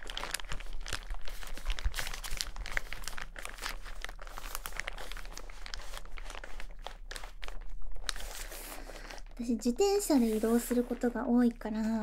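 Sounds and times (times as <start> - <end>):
rain poncho fabric crinkling: 0.0 - 12.0.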